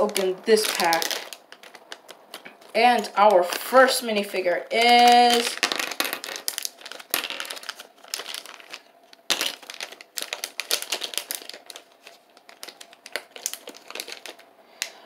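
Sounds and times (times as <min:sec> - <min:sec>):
foil pack crinkling: 0:00.0 - 0:14.9.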